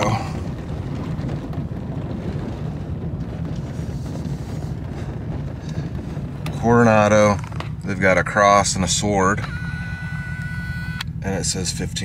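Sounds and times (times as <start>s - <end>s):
truck engine hum: 0.0s - 12.0s
wind noise on microphone: 0.0s - 12.0s.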